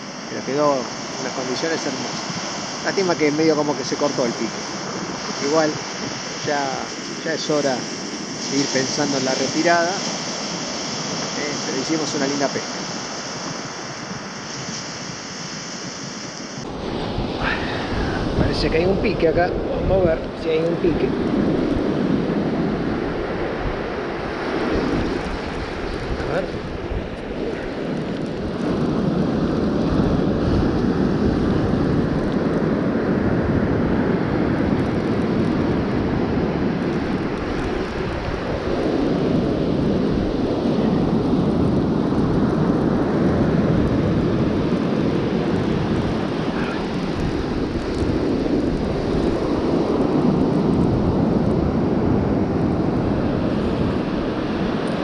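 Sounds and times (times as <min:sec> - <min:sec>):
surf breaking on beach: 0:00.0 - 0:55.0
wind rumbling on microphone: 0:00.0 - 0:55.0.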